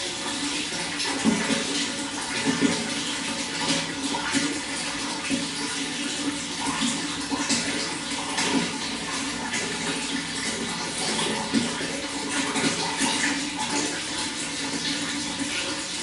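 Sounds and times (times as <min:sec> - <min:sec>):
water flowing and splashing: 0:00.0 - 0:16.0.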